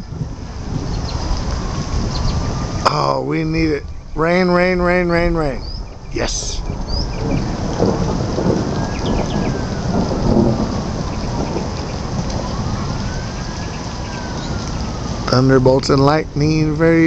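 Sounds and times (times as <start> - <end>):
faint siren wailing: 0.0 - 17.0
rain pouring: 0.0 - 17.0
thunder rumbling: 0.0 - 17.0.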